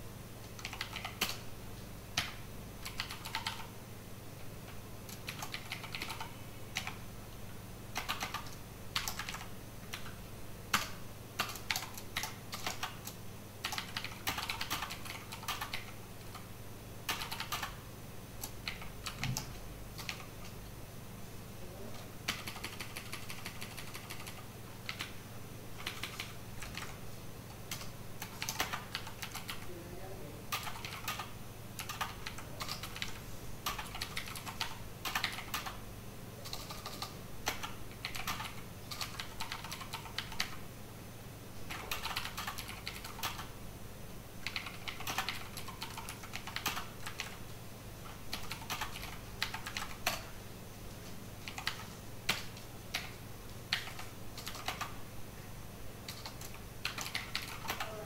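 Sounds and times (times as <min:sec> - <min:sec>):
steady low hum: 0:00.0 - 0:58.0
keyboard typing: 0:00.4 - 0:01.4, 0:02.1 - 0:03.8, 0:04.6 - 0:07.0, 0:07.9 - 0:17.8, 0:18.4 - 0:20.6, 0:22.2 - 0:25.2, 0:25.8 - 0:29.7, 0:30.5 - 0:35.8, 0:36.4 - 0:40.6, 0:41.7 - 0:43.5, 0:44.4 - 0:50.3, 0:51.4 - 0:55.0, 0:56.0 - 0:58.0.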